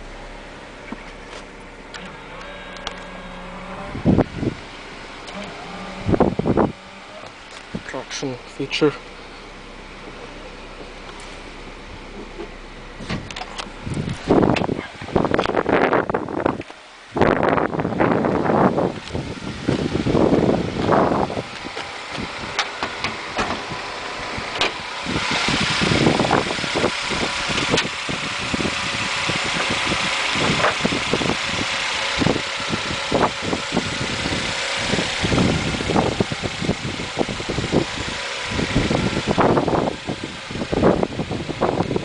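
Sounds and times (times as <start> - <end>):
car engine idling: 0.0 - 42.0
wind buffeting microphone: 3.8 - 7.9, 9.0 - 42.0.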